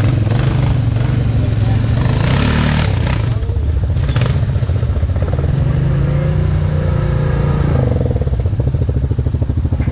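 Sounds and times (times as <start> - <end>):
vehicle engine running steadily: 0.0 - 9.9.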